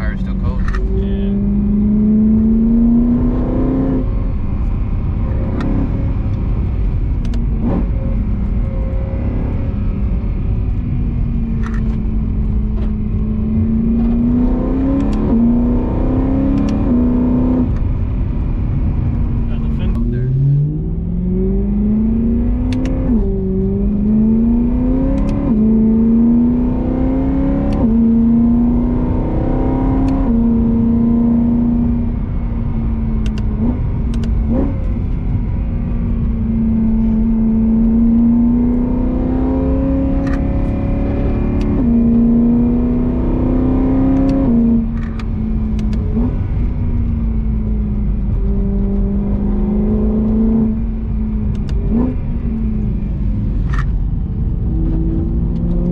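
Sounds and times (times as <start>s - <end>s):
car engine shifting gears: 0.0s - 55.9s.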